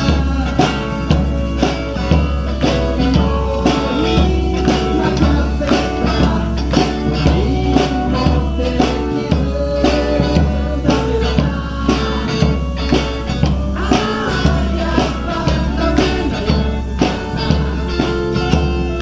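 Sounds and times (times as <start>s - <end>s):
guitar: 0.0s - 19.0s
person singing: 0.0s - 19.0s
tambourine-like percussion: 0.0s - 19.0s.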